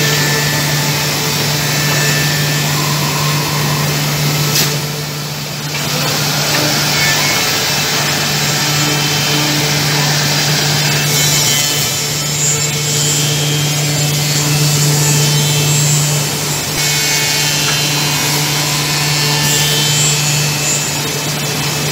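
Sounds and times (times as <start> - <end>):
machine hum: 0.0 - 21.9
router cutting wood: 0.0 - 21.9.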